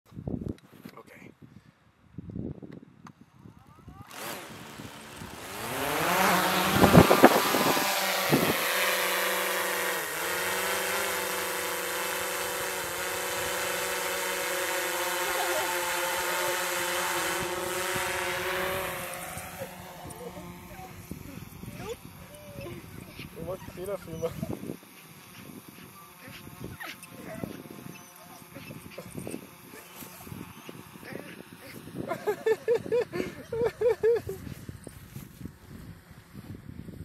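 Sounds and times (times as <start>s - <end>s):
drone propellers buzzing: 3.9s - 34.9s.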